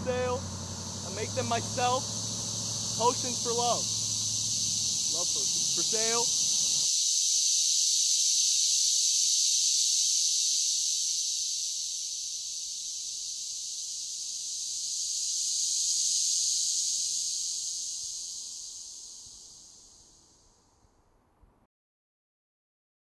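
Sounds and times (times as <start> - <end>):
high-pitched insect chorus: 0.0 - 21.1.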